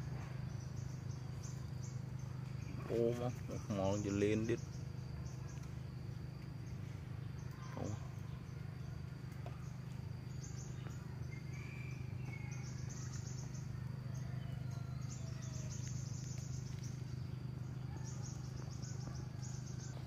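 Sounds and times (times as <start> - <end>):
crickets and insects trilling: 0.0 - 20.0
faint bird chirps: 0.0 - 20.0
steady low rumble: 0.0 - 20.0.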